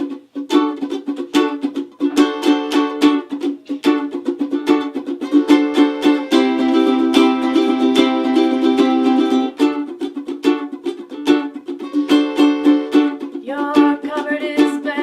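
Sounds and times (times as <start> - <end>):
electric ukuleles strumming chords: 0.0 - 15.0.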